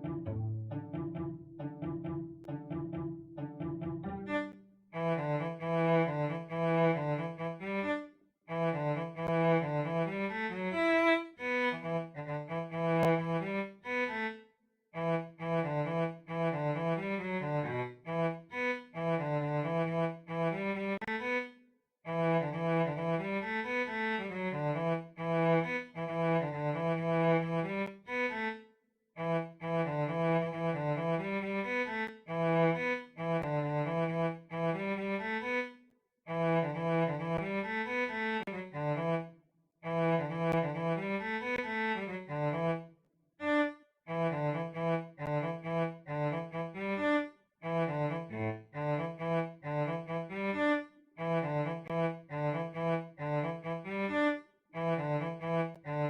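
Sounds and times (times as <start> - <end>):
cello playing lively melody: 0.0 - 14.4, 15.0 - 21.4, 22.1 - 28.6, 29.2 - 35.7, 36.3 - 42.9, 43.5 - 56.0.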